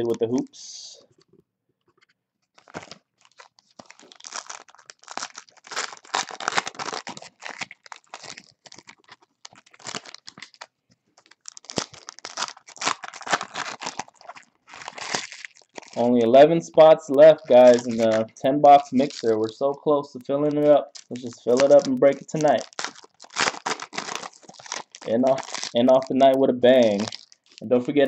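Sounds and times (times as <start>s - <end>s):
foil wrappers tearing and crinkling: 2.6s - 19.6s, 20.5s - 28.0s.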